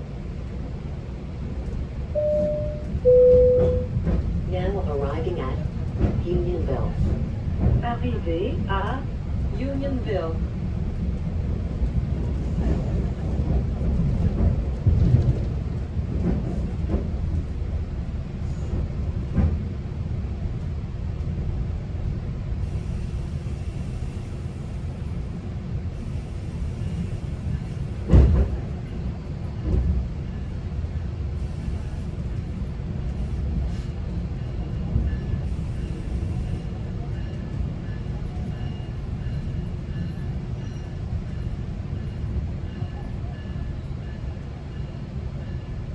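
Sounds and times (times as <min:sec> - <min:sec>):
train rumble inside coach: 0:00.0 - 0:45.9.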